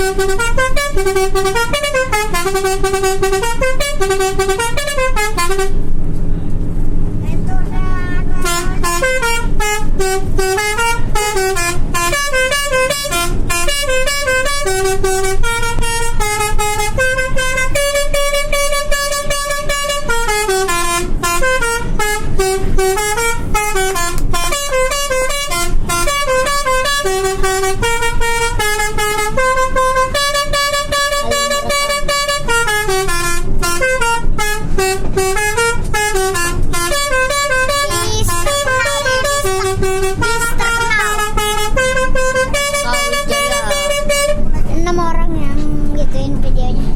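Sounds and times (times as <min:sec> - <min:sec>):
multi-tone air horns playing a tune: 0:00.0 - 0:05.8, 0:08.4 - 0:44.5.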